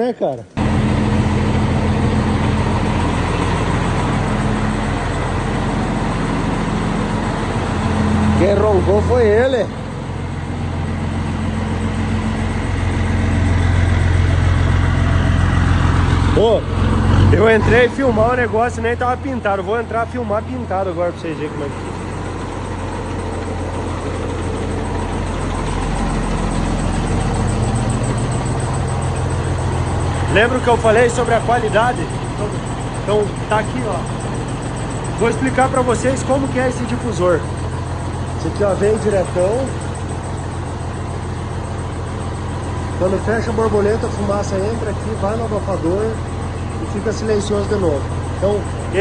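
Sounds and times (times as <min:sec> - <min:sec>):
diesel truck engine rumbling: 0:00.0 - 0:49.0.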